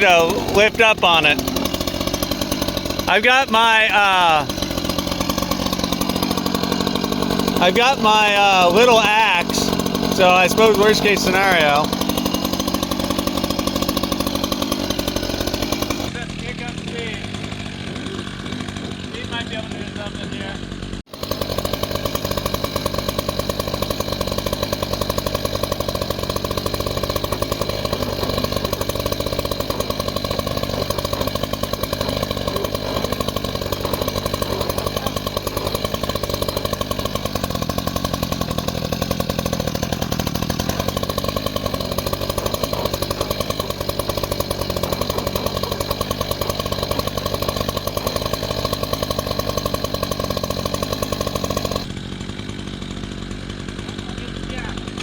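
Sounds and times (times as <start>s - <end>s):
reciprocating saw cutting log: 0.0s - 55.0s.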